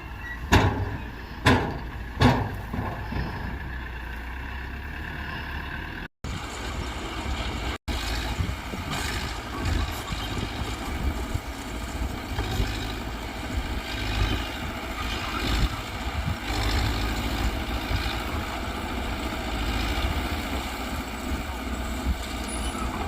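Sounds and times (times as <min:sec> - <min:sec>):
bulldozer diesel engine rumbling: 0:00.0 - 0:23.0.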